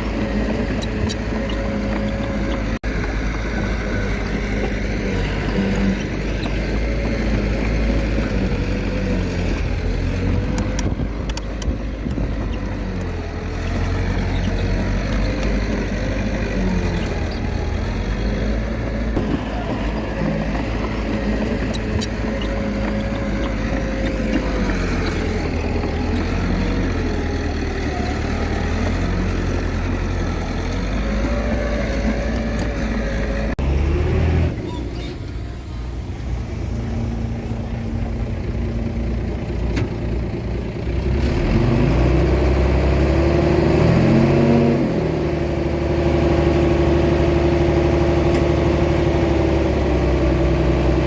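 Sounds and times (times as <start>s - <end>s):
bulldozer diesel engine droning: 0.0s - 51.0s.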